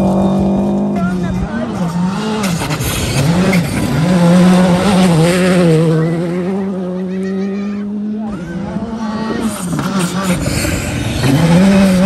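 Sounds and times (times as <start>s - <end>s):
rally car engine passing: 0.0s - 12.0s.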